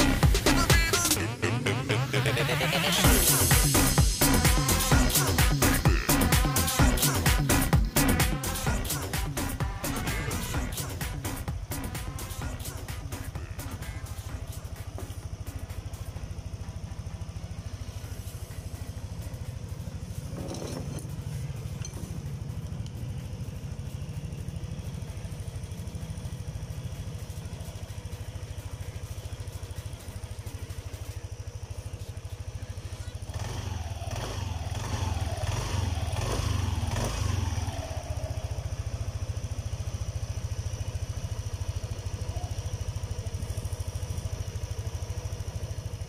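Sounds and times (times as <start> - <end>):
scooter engine idling: 0.0 - 46.0.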